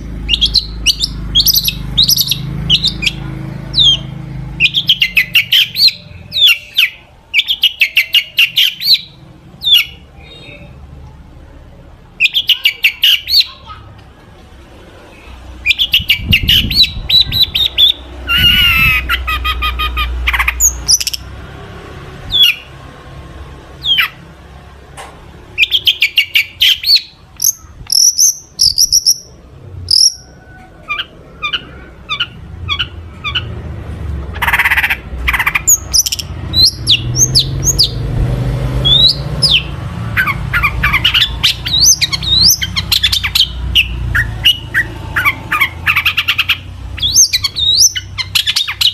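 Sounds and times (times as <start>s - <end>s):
shrike singing varied song: 0.0s - 10.9s, 12.2s - 13.8s, 15.1s - 21.4s, 25.5s - 33.6s, 34.3s - 38.1s, 38.7s - 48.9s.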